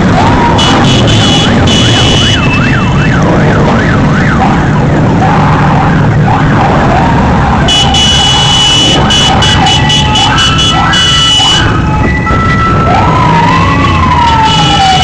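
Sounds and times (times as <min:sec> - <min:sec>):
motorcycle engines: 0:00.0 - 0:15.0
siren wailing: 0:00.0 - 0:15.0.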